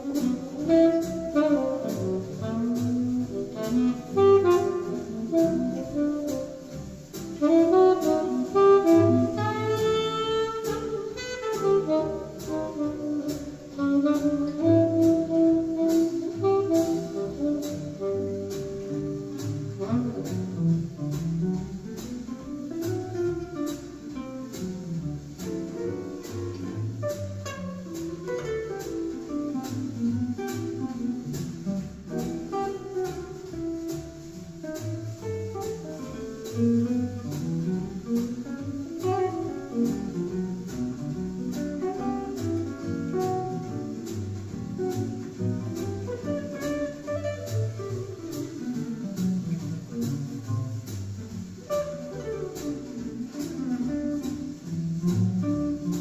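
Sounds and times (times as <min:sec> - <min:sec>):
jazz through speakers: 0:00.0 - 0:56.0.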